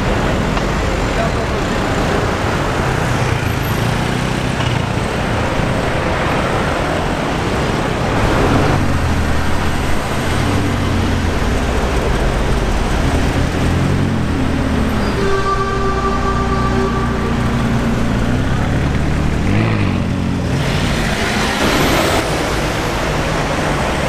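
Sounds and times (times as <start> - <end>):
car engines humming: 0.0 - 24.0
road noise: 0.0 - 24.0.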